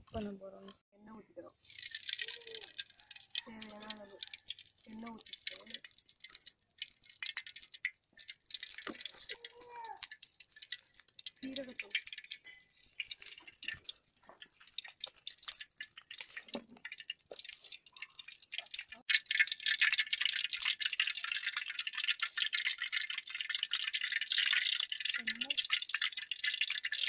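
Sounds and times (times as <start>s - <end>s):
hot oil crackling and sizzling: 1.6s - 27.0s.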